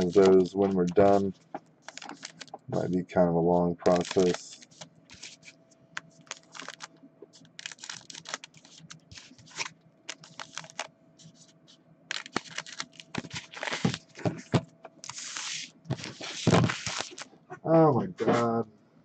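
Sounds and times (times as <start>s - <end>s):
foil packs crinkling: 0.0s - 2.6s, 3.8s - 11.5s, 12.1s - 17.3s.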